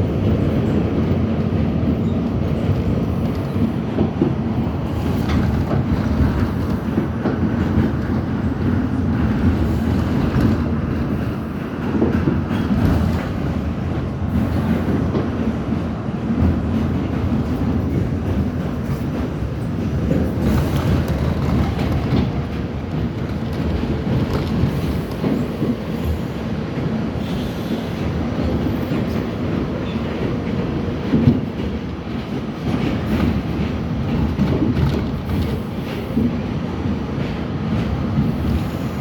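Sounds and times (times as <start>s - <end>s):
subway train rumbling on track: 0.0s - 39.0s.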